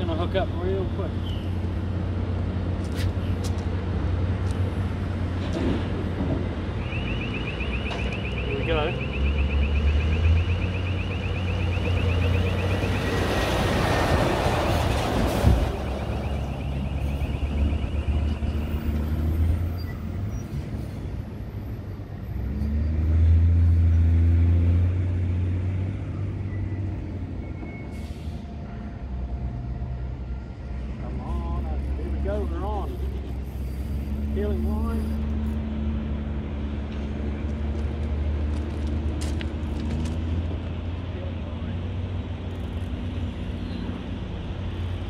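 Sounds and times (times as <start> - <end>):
heavy truck traffic rumbling: 0.0 - 45.0
truck engine drone: 0.0 - 45.0.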